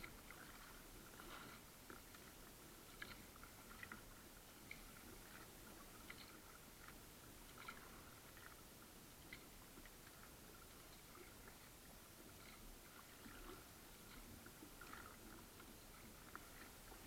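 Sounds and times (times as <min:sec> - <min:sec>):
faint small ticks: 0:00.0 - 0:08.6, 0:09.2 - 0:11.7, 0:12.3 - 0:17.0
low steady hiss: 0:00.0 - 0:17.0.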